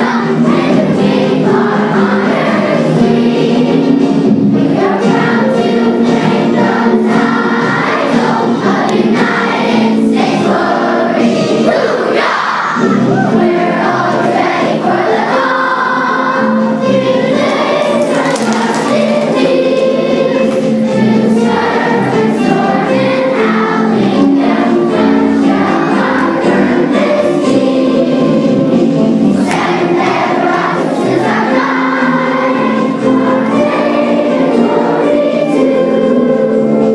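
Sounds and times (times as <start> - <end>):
children singing together: 0.0 - 36.9.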